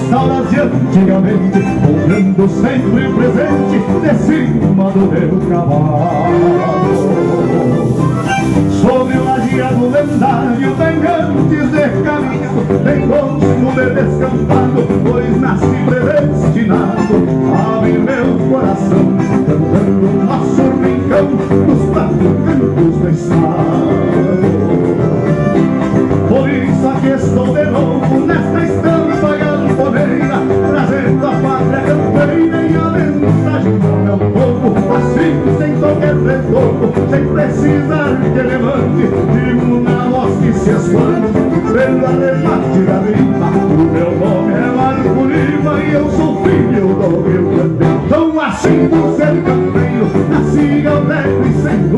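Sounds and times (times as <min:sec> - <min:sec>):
folk band accompaniment: 0:00.0 - 0:51.9
man singing: 0:00.0 - 0:51.9.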